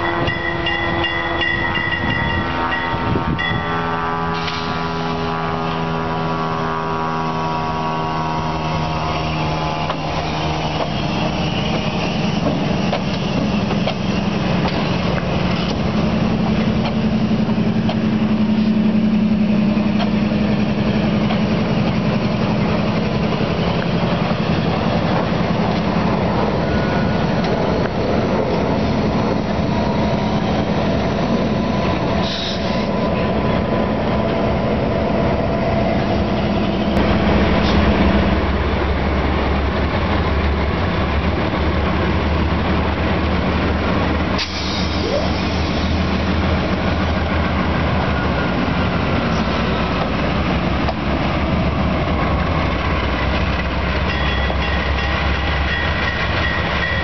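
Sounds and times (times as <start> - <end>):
diesel locomotives rumbling past: 0.0 - 57.0.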